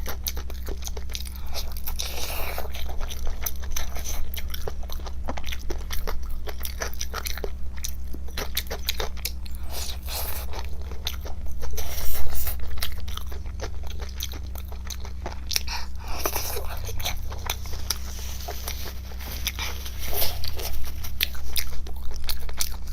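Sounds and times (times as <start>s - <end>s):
crunchy chewing: 0.0s - 22.9s
low hum: 0.0s - 22.9s.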